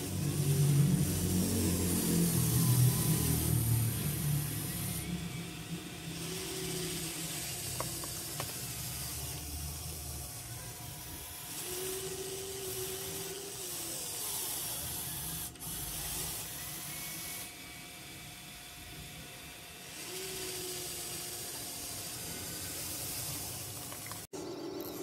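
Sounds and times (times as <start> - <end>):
small electric motors whirring: 0.0 - 25.0.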